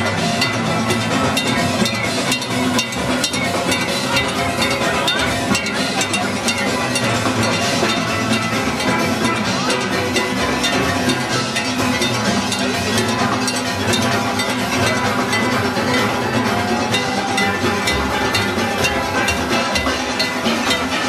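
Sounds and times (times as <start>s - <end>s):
iron and drum percussion: 0.0s - 21.0s
steel pans playing tune: 0.0s - 21.0s.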